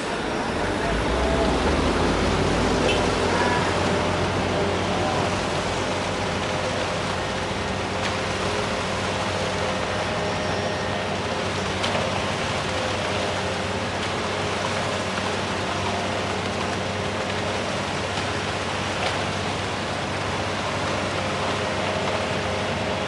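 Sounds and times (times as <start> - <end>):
machinery engine humming: 0.0 - 23.0.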